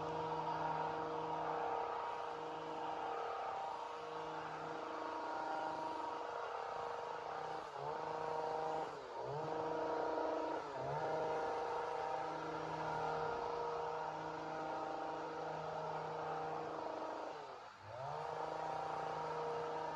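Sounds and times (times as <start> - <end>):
chainsaw running at high revs: 0.0 - 19.9.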